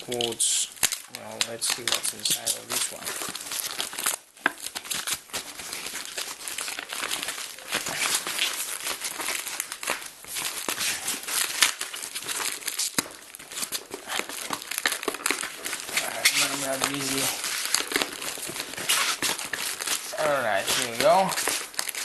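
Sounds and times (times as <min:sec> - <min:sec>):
package being torn open: 0:00.0 - 0:22.0
packaging crinkling: 0:00.0 - 0:22.0.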